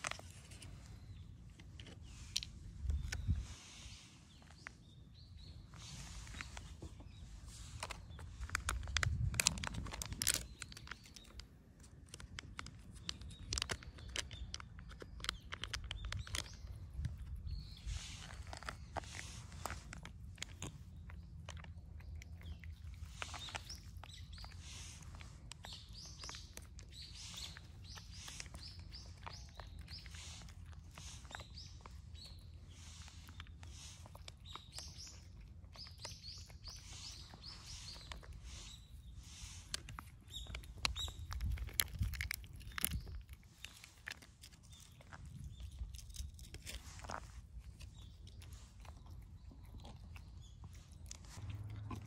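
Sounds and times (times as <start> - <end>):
cats eating: 0.0 - 52.0
small birds chirping: 0.0 - 52.0.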